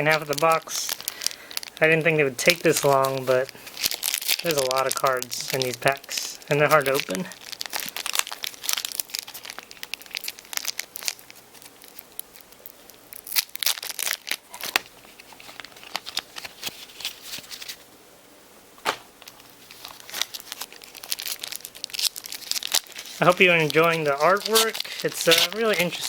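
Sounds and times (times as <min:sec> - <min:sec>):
foil packs tearing and crinkling: 0:00.0 - 0:17.8, 0:19.2 - 0:26.0.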